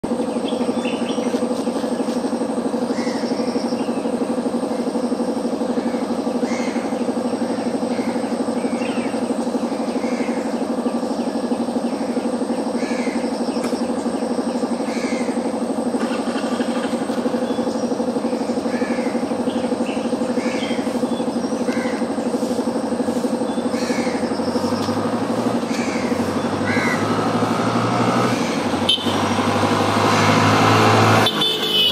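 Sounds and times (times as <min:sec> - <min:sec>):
low pulsing hum: 0:00.0 - 0:31.9
birds chirping: 0:00.1 - 0:31.9.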